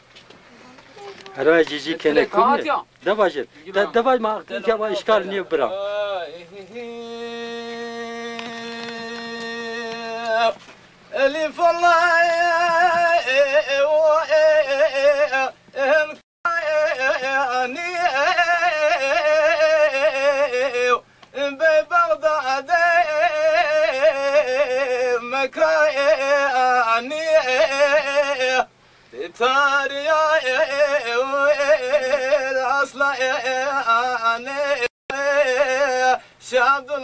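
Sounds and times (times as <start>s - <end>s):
man singing unaccompanied: 1.2s - 37.0s.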